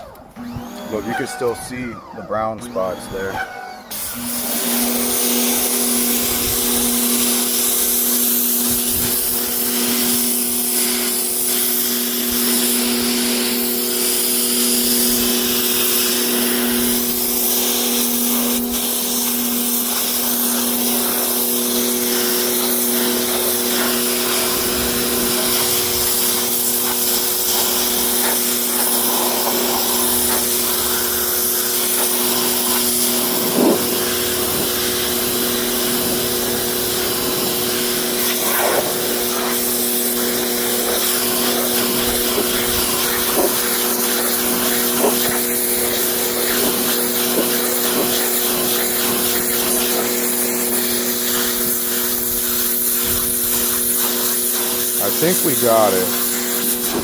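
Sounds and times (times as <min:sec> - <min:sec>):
pressure washer motor hum: 0:00.0 - 0:57.0
water jet hissing on carpet: 0:03.9 - 0:57.0.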